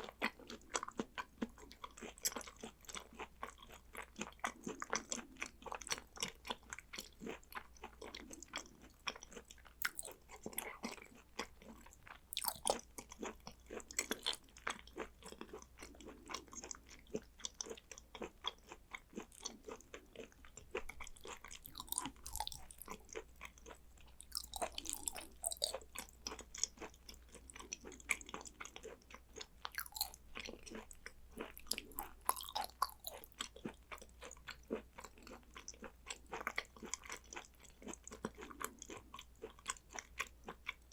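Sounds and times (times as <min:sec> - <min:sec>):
wet chewing and smacking: 0:00.0 - 0:40.9.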